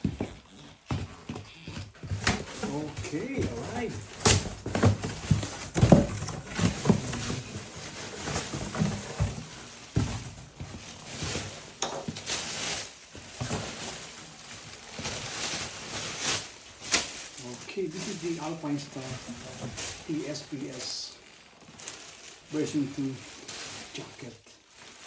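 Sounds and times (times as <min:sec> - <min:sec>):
handling rustling: 0:00.0 - 0:25.0.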